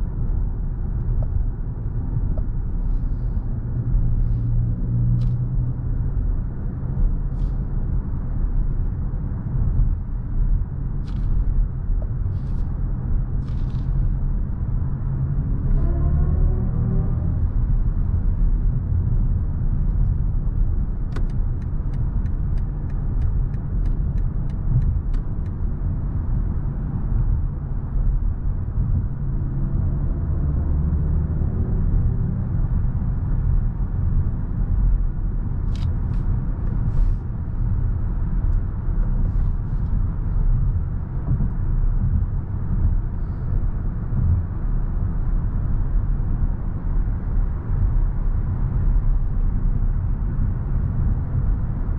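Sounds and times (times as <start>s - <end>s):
road and tyre rumble: 0.0s - 51.9s.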